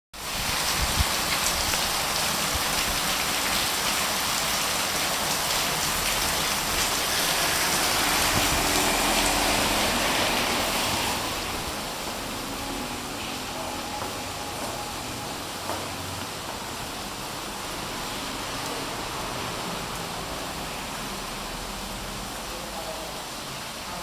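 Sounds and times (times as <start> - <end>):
heavy rain pouring: 0.2 - 24.0.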